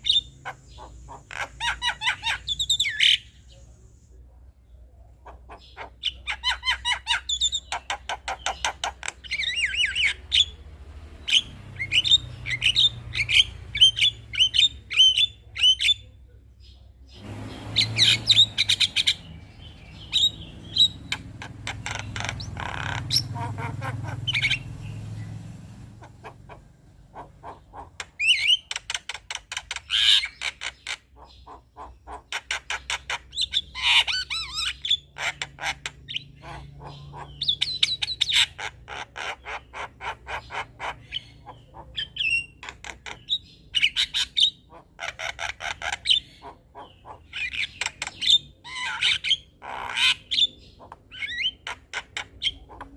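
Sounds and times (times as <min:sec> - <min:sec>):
bird chattering song: 0:00.0 - 0:52.9.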